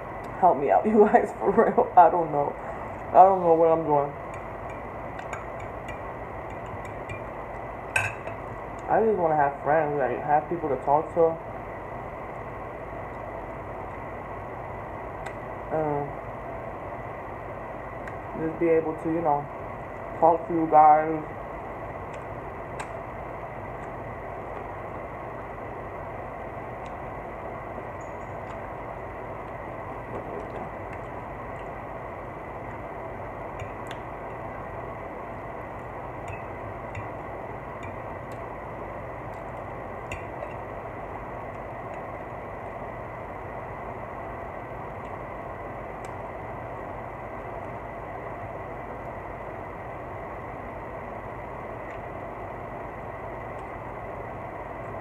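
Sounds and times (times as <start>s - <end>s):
mechanical hum with high whine: 0.0s - 55.0s.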